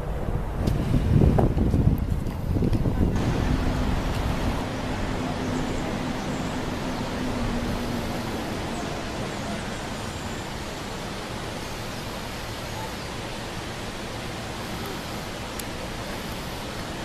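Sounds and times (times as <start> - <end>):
distant road traffic hiss: 0.0 - 17.0.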